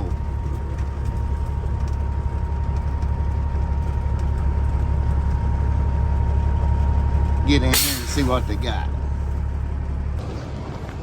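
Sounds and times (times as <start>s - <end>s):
truck diesel engine rumble: 0.0s - 10.4s.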